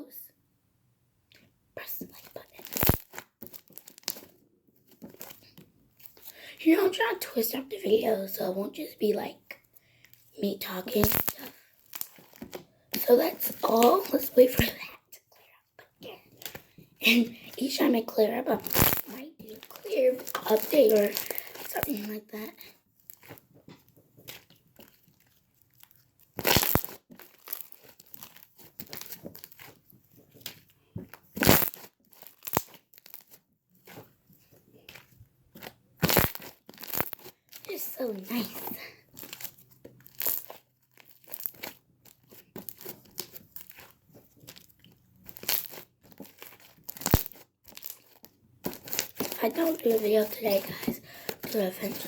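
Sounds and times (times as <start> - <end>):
handling crackles and clicks: 2.1 - 6.4, 11.0 - 14.7, 16.0 - 17.6, 18.6 - 37.7, 38.5 - 52.0.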